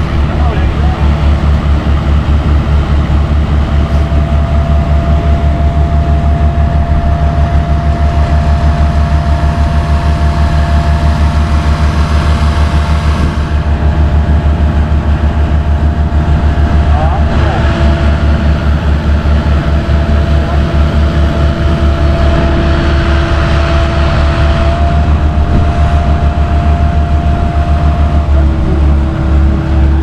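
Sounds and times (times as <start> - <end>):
heavy diesel engine running: 0.0 - 30.0
thin steady whine: 0.0 - 30.0.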